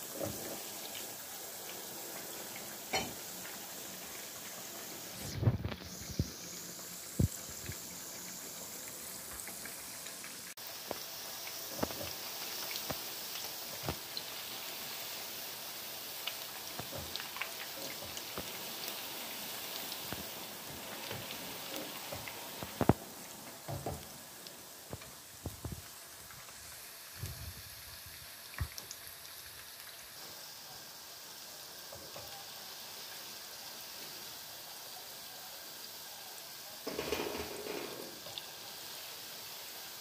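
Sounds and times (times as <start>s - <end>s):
meatballs sizzling in hot oil: 0.0s - 40.0s
sharp clicks of frying: 0.0s - 40.0s.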